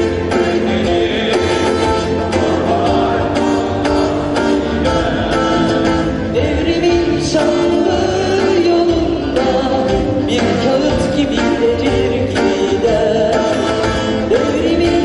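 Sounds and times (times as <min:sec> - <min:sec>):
person singing: 0:00.0 - 0:15.0
strummed guitar: 0:00.0 - 0:15.0.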